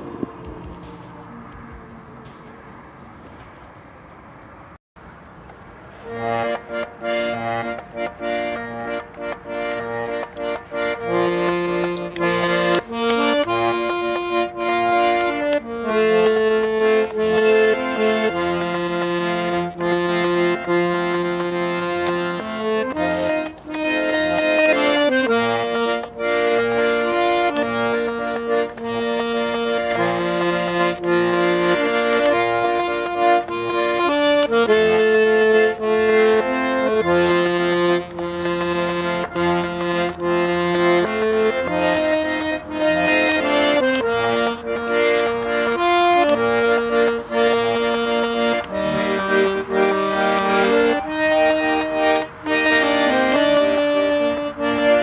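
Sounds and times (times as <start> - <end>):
button accordion folk tune: 6.0 - 55.0.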